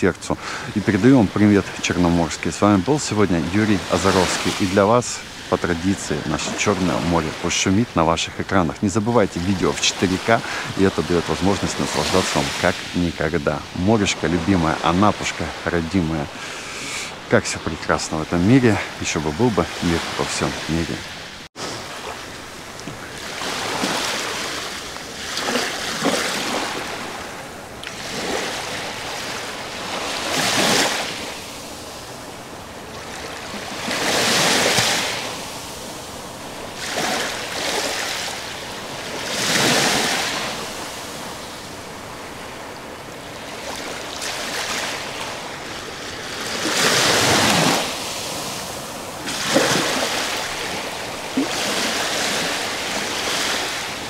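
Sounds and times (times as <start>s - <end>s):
small waves washing up shore: 0.0s - 54.0s.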